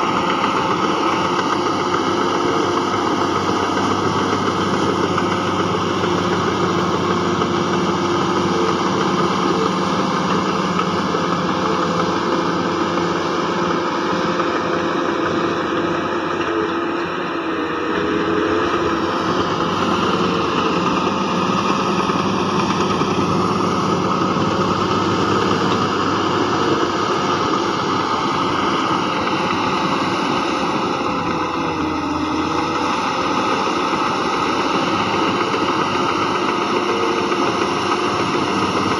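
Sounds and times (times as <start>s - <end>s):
heavy machinery diesel engine running: 0.0s - 38.9s.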